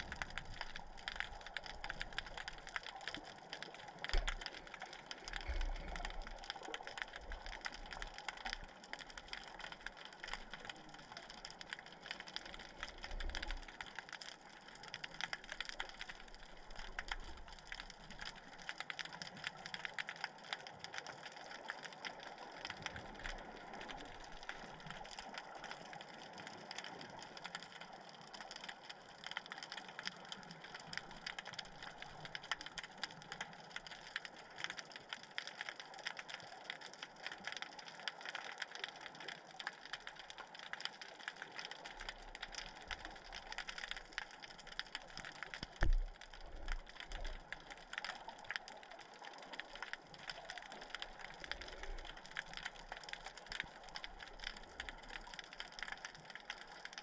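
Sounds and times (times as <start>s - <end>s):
snapping shrimp crackle underwater: 0.0s - 57.0s.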